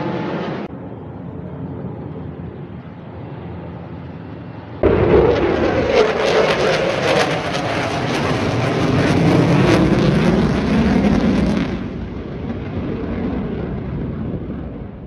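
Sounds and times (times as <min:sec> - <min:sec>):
fighter jets roaring overhead: 0:00.0 - 0:15.0.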